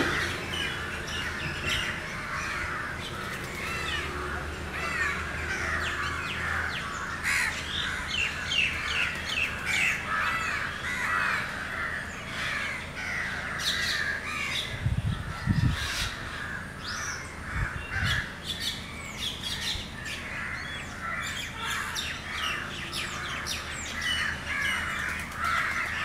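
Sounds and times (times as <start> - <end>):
birds calling and chirping: 0.0 - 26.0.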